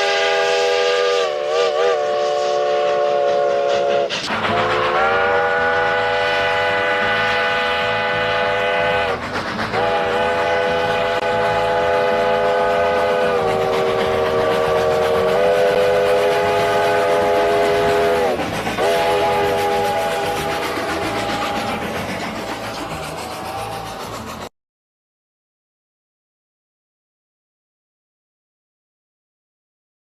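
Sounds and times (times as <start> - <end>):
multi-chime train whistle blasts: 0.0 - 24.2
moving train rumble: 0.0 - 24.5.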